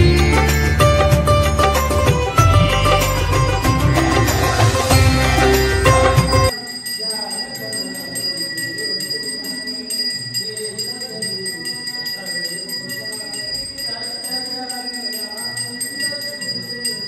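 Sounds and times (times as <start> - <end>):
hand bell ringing rapidly: 0.0 - 17.0.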